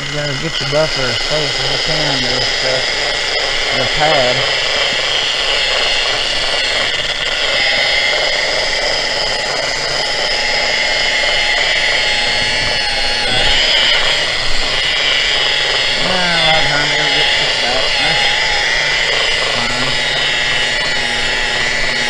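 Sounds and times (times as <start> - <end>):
rotary buffer motor whine: 0.0 - 22.0.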